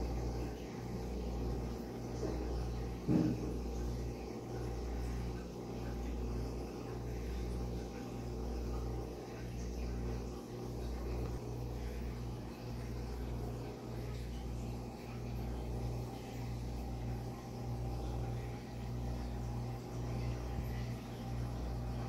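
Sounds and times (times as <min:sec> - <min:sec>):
aquarium pump humming: 0:00.0 - 0:22.0.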